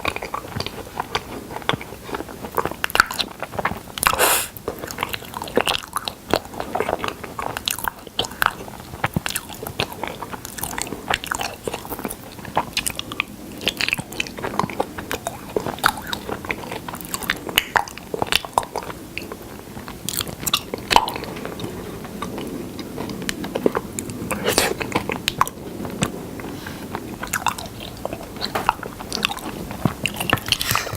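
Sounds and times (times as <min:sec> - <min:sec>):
sticky chewing and crunching: 0:00.0 - 0:30.9.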